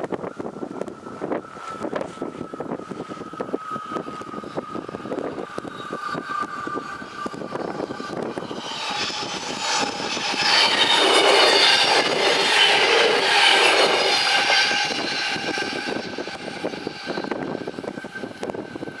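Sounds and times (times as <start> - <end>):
diesel train passing: 0.3 - 19.0.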